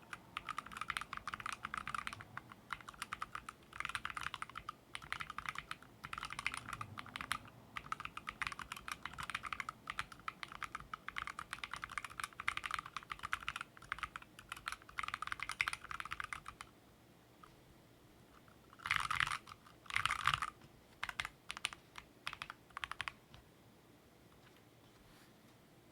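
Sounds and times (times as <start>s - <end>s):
typing on mechanical keyboard: 0.0s - 16.7s, 18.7s - 23.4s.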